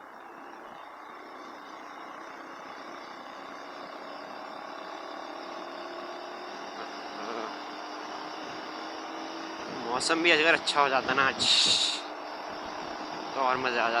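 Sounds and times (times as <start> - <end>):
motorcycle engine accelerating: 0.0 - 14.0
road and traffic noise: 0.0 - 14.0.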